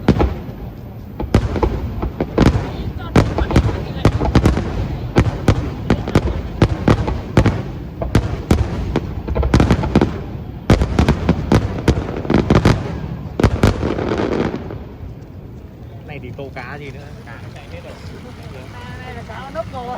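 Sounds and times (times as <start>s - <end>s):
continuous low rumble: 0.0s - 19.9s
fireworks bangs: 0.0s - 19.9s.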